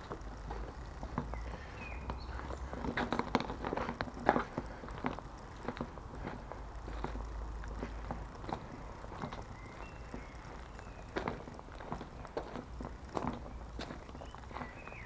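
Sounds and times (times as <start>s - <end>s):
footsteps crunching over sticks: 0.0s - 15.0s.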